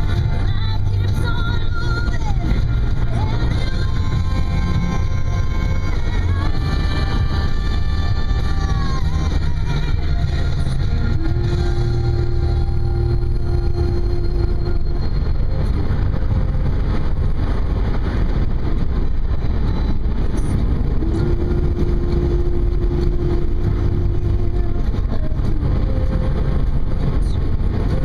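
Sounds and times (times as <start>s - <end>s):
car engine rumble: 0.0s - 28.0s
road noise: 0.0s - 28.0s.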